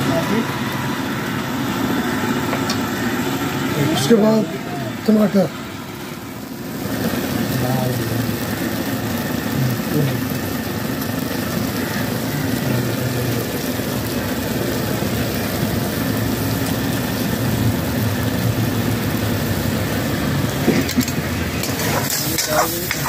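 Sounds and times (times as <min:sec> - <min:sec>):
gas burner roaring: 0:00.0 - 0:23.0
oil and spices frying: 0:00.0 - 0:23.0.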